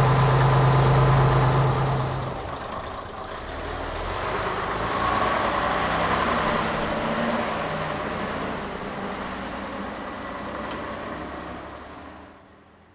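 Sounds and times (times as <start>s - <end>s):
lorry diesel engine driving past: 0.0s - 12.9s.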